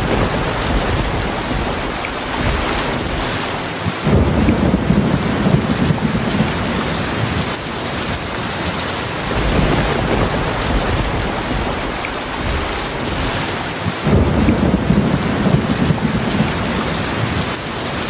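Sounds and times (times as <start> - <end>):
heavy rain falling: 0.0 - 18.0
low thunder rumbling: 0.0 - 18.0.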